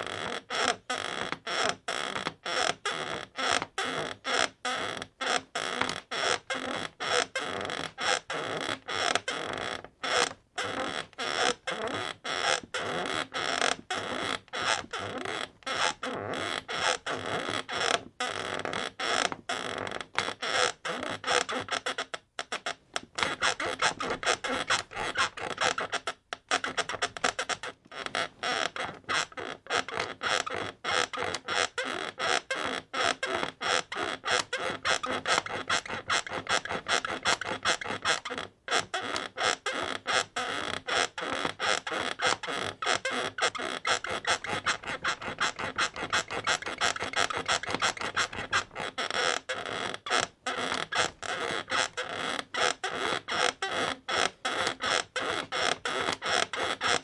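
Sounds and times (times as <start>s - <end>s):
bed creaking: 0.0s - 57.0s.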